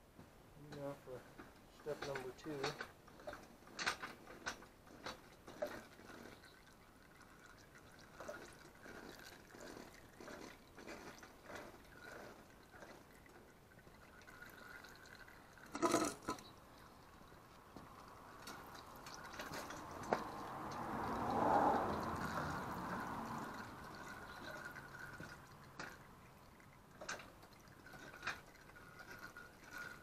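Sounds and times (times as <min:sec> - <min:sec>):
oil dripping into pan: 0:02.9 - 0:30.0.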